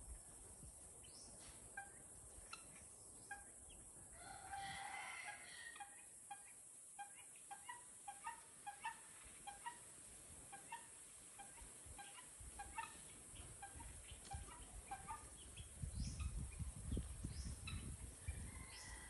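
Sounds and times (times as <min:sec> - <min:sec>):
guineafowl calling: 0:01.7 - 0:16.6, 0:17.2 - 0:19.0.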